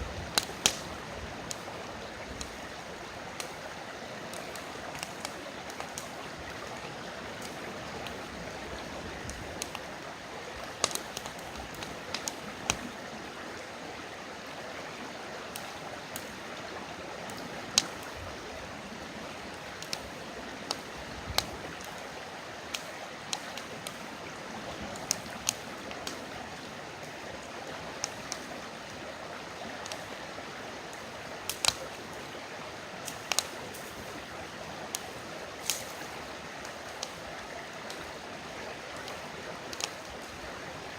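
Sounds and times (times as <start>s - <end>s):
campfire crackling and popping: 0.0s - 40.9s
river flowing: 0.0s - 40.9s.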